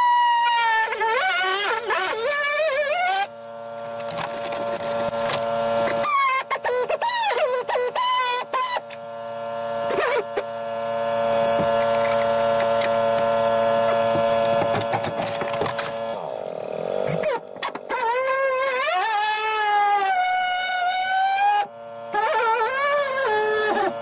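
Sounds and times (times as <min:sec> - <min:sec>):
air-powered glass cutter whining: 0:00.0 - 0:24.0.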